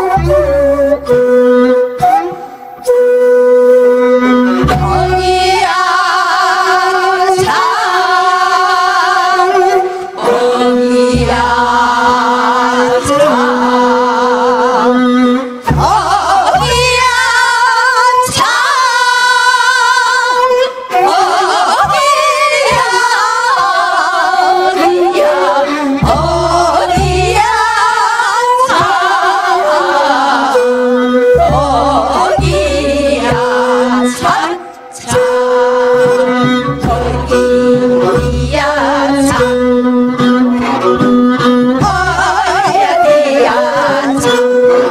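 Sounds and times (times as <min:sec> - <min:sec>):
instrumental accompaniment: 0:00.0 - 0:44.9
women singing folk song: 0:04.6 - 0:44.9.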